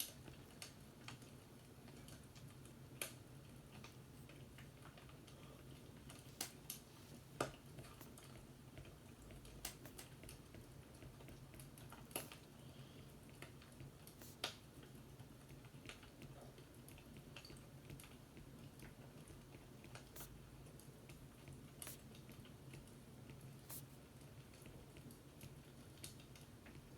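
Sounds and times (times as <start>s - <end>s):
low steady hum: 0.1s - 26.9s.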